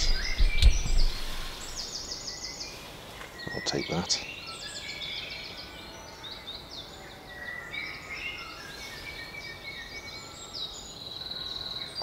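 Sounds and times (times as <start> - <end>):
steady background hiss: 0.0 - 11.2
songbirds singing: 0.0 - 12.0.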